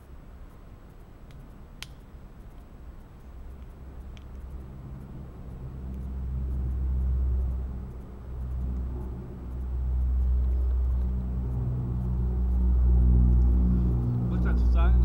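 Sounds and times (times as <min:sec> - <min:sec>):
low hum: 0:00.0 - 0:15.0
distant engine rumble: 0:01.4 - 0:15.0.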